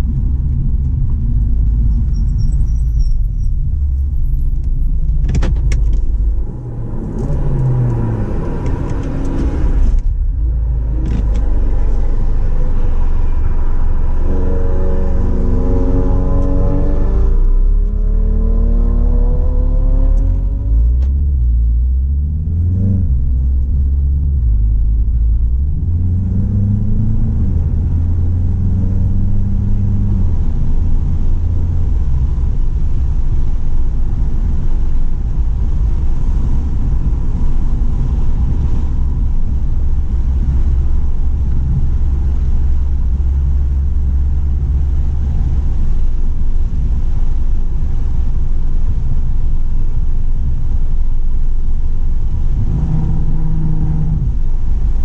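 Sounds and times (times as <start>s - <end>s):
car engine running: 0.0s - 55.0s
road noise: 0.0s - 55.0s
wind noise: 0.0s - 55.0s.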